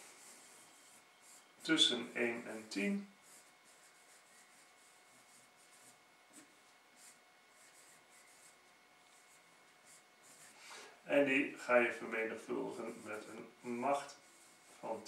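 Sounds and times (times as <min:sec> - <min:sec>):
marker pen on whiteboard: 0:00.0 - 0:10.8, 0:11.7 - 0:15.0.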